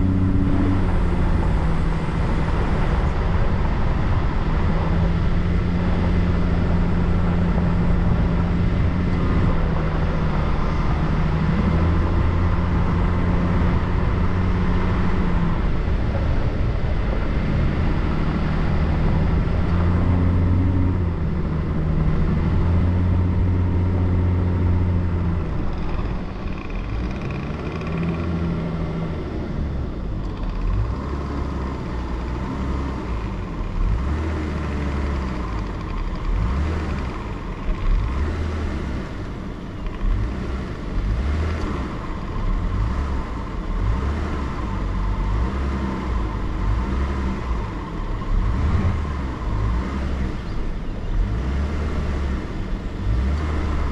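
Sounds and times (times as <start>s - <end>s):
car engine running: 0.0s - 53.9s
tyres rumbling on dirt road: 0.0s - 53.9s.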